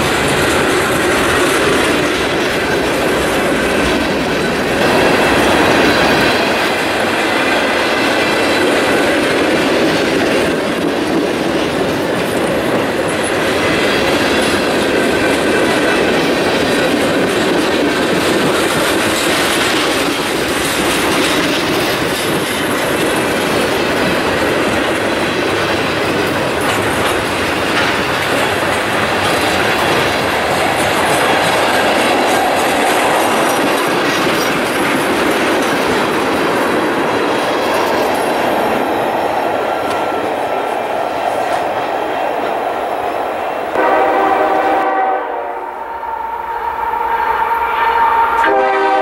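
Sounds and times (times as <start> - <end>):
steel wheels rumbling on rails: 0.0 - 49.0.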